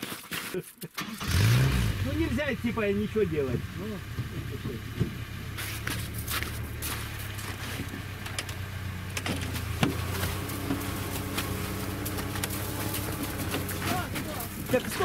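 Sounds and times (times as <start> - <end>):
engine running at low revs: 1.2 - 15.0.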